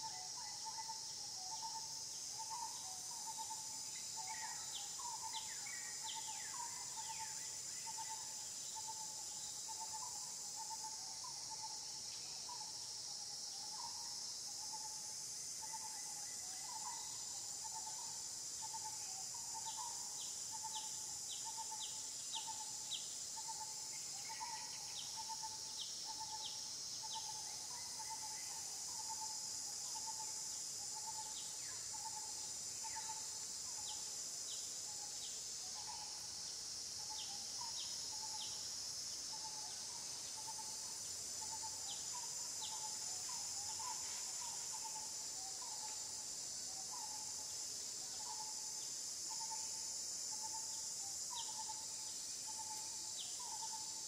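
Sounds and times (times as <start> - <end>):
high-pitched insect drone: 0.0 - 54.0
short insect call: 0.0 - 54.0.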